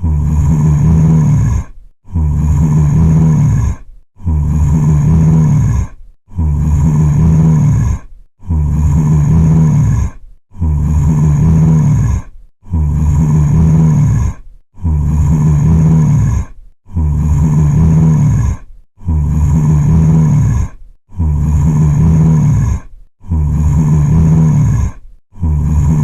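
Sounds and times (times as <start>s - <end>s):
zombie groaning: 0.0s - 26.0s.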